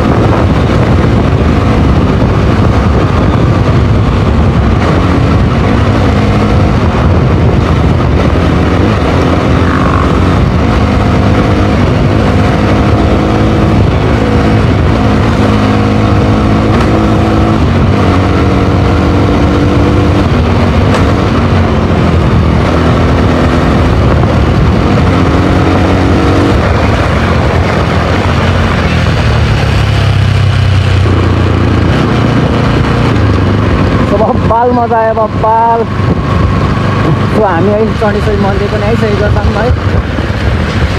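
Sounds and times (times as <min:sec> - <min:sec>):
motorcycle engine revving: 0:00.0 - 0:40.9
rushing noise: 0:00.0 - 0:40.9.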